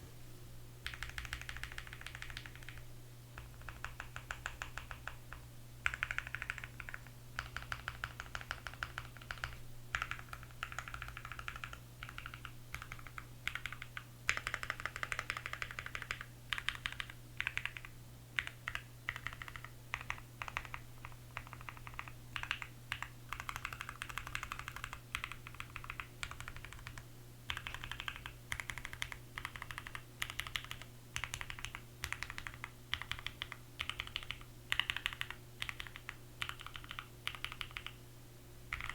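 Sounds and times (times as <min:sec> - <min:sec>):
mechanical keyboard typing: 0:00.8 - 0:02.8, 0:03.4 - 0:38.0.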